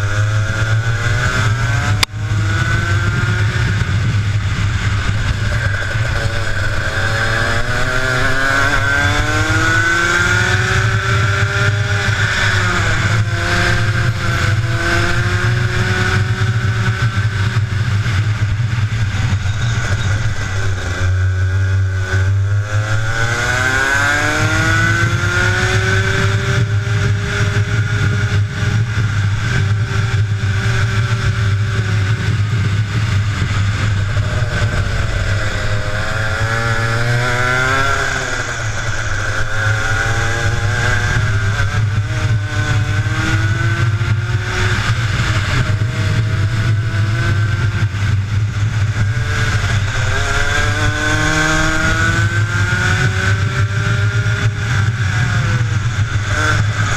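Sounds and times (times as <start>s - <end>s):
kart engine racing: 0.0s - 56.9s.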